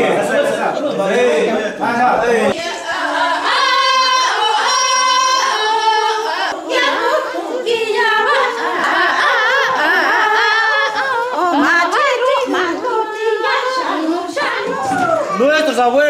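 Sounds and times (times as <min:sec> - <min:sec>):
women singing unaccompanied: 0:02.5 - 0:15.4.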